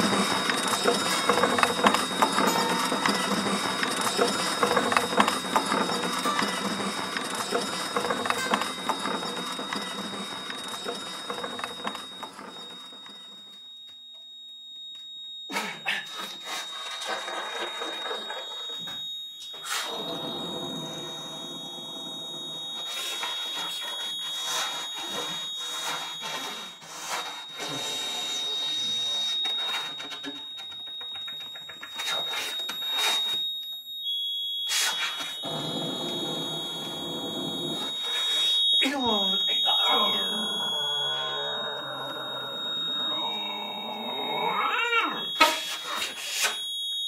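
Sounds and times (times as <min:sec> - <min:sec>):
steady high tone: 0:00.0 - 0:47.0.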